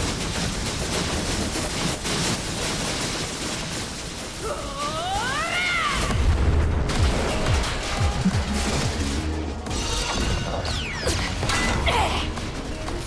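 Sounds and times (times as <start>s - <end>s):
rumbling battle impacts and blasts: 0.0s - 13.0s.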